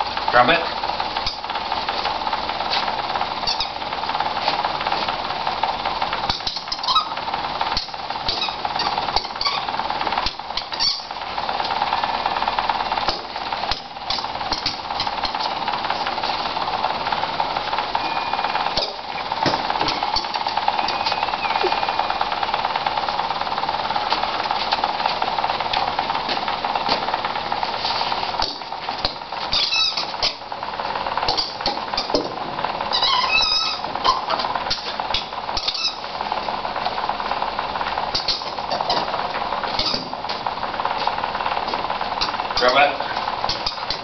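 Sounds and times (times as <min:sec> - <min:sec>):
machine hum: 0:00.0 - 0:44.0.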